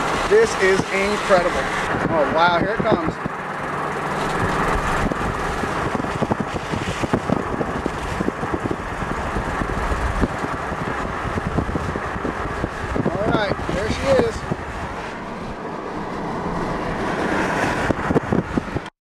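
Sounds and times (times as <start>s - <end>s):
car engine and road rumble: 0.0s - 18.9s.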